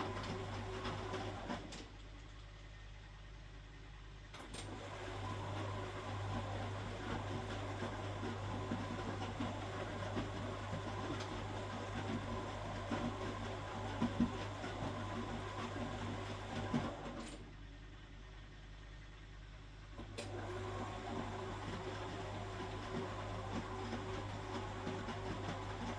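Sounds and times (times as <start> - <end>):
washing machine motor hum: 0.0 - 3.8, 4.4 - 25.9.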